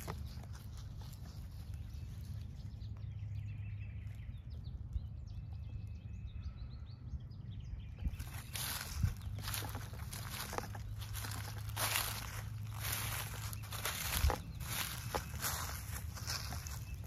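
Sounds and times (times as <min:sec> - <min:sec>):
low steady rumble: 0:00.0 - 0:17.0
songbirds chirping: 0:00.0 - 0:17.0.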